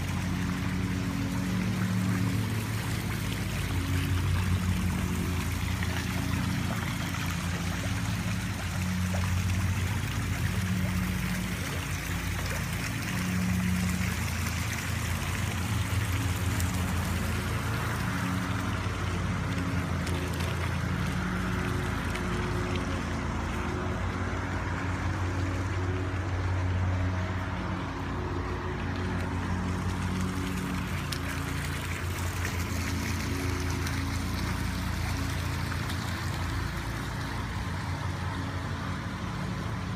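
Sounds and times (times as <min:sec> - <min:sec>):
steady low hum: 0:00.0 - 0:39.9
water splashing into pool: 0:00.0 - 0:39.9.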